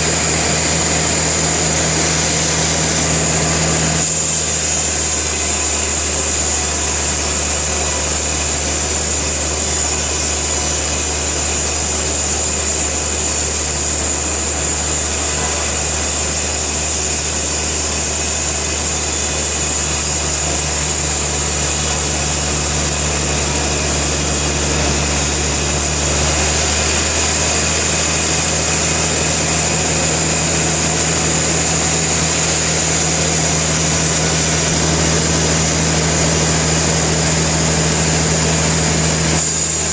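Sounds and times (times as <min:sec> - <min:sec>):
sawmill machinery humming and whining: 0:00.0 - 0:39.9.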